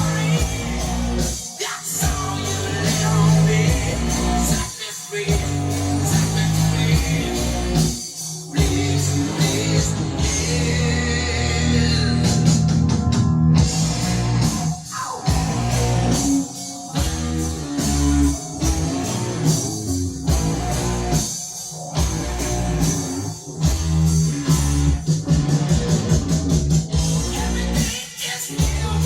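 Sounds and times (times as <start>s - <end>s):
rock music with guitar and drums: 0.0s - 29.0s.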